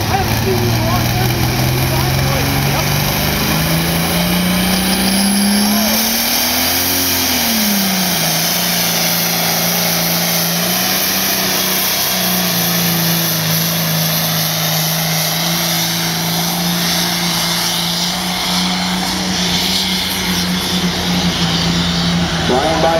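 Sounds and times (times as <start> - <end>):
tractor engine droning under load: 0.0 - 22.9.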